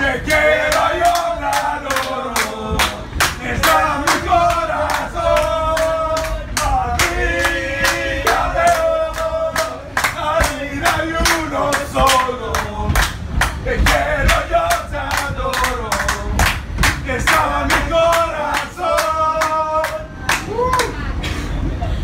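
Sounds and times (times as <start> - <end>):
football fans chanting: 0.0 - 20.2
group handclaps: 0.6 - 20.9.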